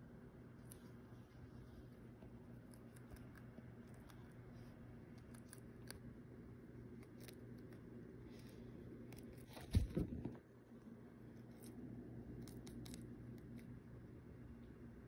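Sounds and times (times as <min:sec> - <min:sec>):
low steady hum: 0:00.0 - 0:15.0
hamster nibbling crunching: 0:00.1 - 0:14.2.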